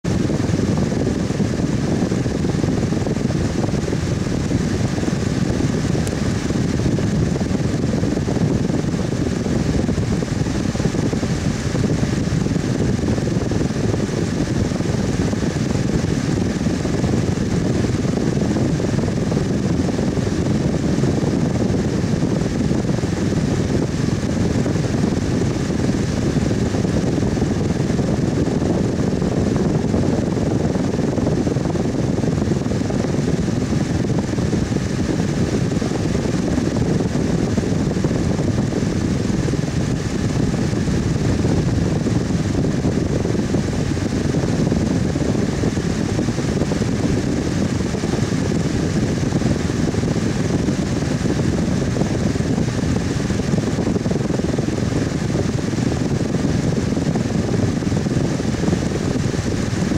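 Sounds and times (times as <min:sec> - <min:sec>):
electric fan rushing air: 0:00.0 - 0:59.9.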